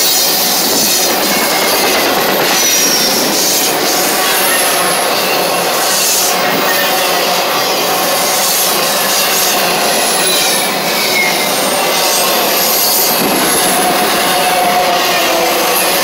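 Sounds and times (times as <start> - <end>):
faint high wheel squeals: 0.0 - 16.0
steel wheels rattling on rail: 0.0 - 16.0.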